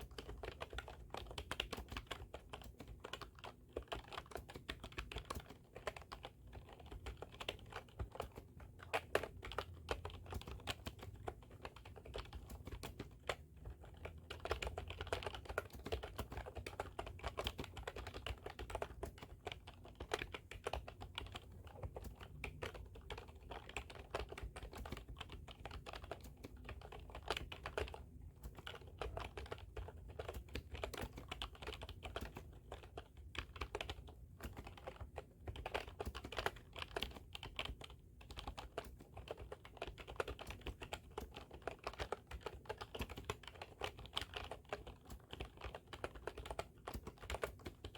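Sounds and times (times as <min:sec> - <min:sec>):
typing on computer keyboard: 0:00.0 - 0:47.9.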